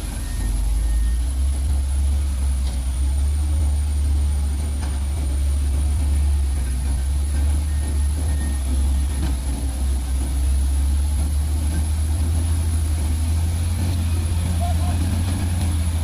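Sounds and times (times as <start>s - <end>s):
diesel engine rumbling: 0.0s - 16.0s
faint high whine: 0.0s - 16.0s.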